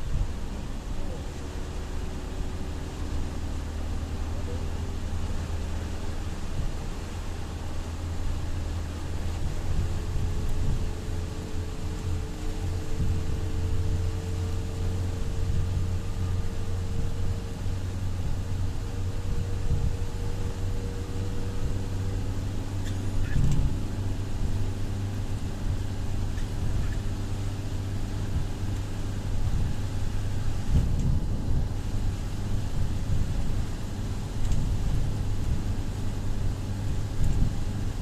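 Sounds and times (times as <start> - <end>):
low rumble with motor hum: 0.0 - 38.0
light even hiss: 0.1 - 38.0.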